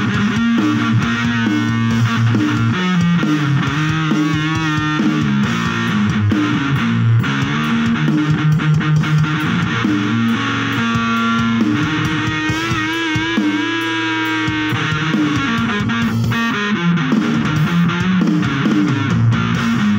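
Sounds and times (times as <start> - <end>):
electric guitar: 0.0 - 19.9.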